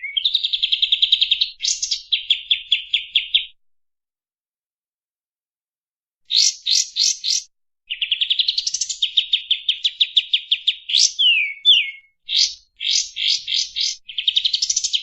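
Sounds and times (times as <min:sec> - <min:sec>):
songbird singing trills: 0:00.0 - 0:03.6, 0:06.3 - 0:15.0.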